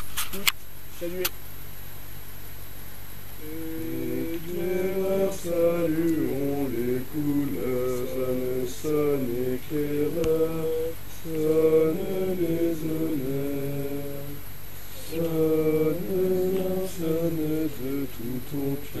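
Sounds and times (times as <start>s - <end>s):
group singing slow song in unison: 3.4s - 19.0s.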